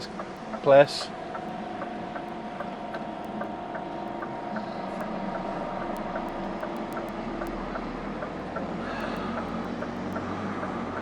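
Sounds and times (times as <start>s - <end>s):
faint regular ticking: 0.0s - 11.0s
truck diesel engine running: 0.0s - 11.0s.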